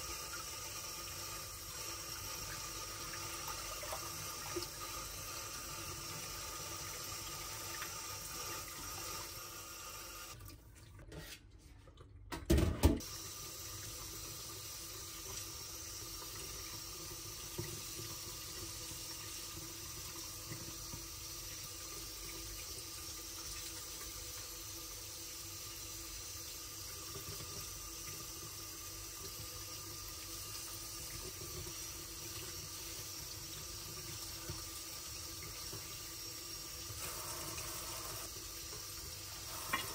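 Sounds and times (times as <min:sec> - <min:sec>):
tap water running into sink: 0:00.0 - 0:10.6, 0:12.4 - 0:39.9.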